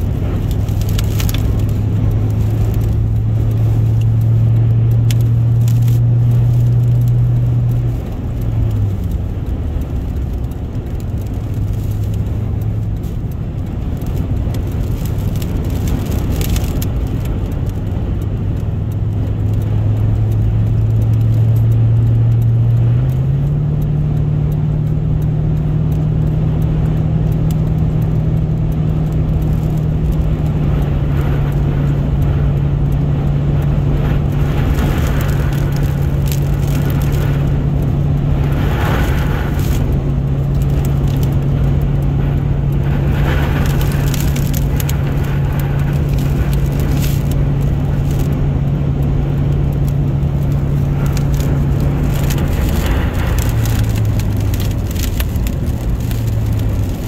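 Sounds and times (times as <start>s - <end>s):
car engine humming: 0.0s - 57.0s
road and wind noise: 0.0s - 57.0s.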